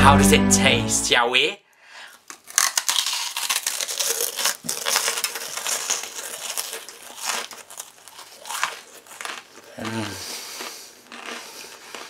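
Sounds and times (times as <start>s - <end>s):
crackly crunching of toffee: 2.1s - 12.0s.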